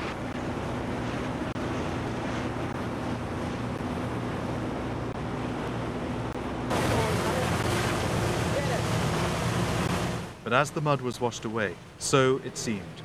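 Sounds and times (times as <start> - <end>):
low mechanical hum: 0.0 - 13.0
sea noise: 0.0 - 13.0.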